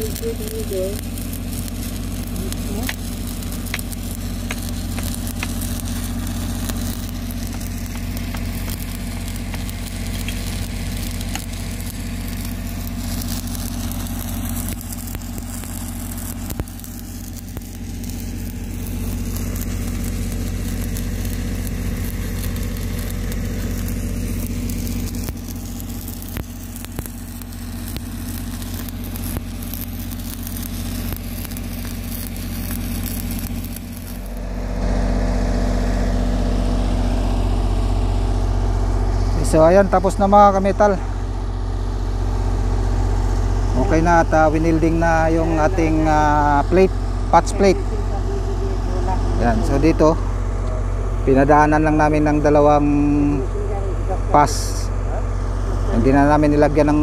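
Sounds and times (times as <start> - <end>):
steady engine hum: 0.0 - 57.0
welding arc crackling and sizzling: 0.0 - 57.0.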